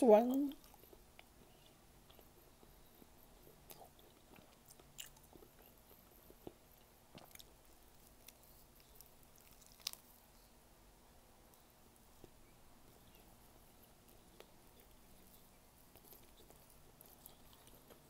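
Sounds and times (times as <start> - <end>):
chewing squid: 0.5 - 10.5, 13.0 - 18.0.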